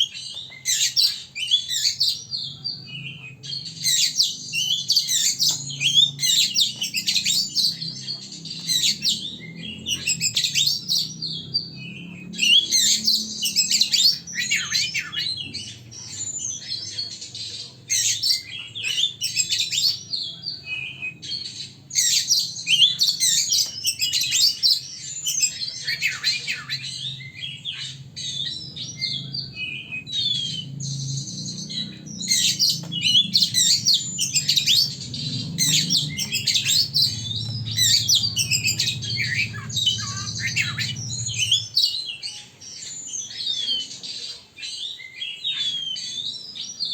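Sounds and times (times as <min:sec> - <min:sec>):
songbird chirps and trills: 0:00.0 - 0:46.9.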